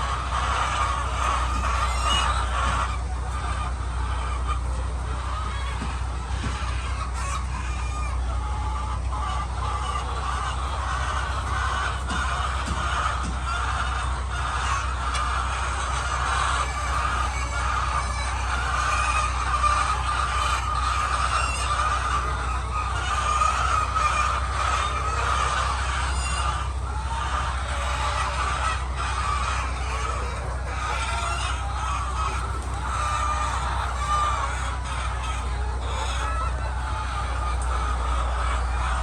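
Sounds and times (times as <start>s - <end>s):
hens clucking and squawking: 0.0s - 39.0s
steady low hum: 0.0s - 39.0s.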